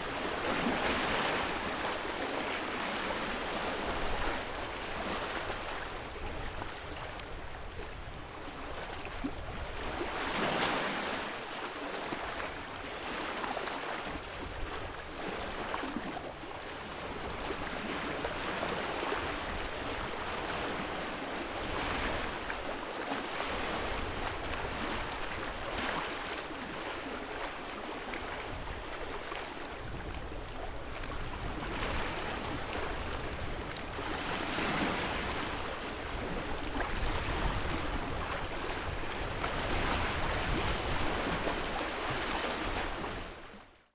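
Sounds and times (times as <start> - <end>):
waves lapping ashore: 0.0 - 43.7.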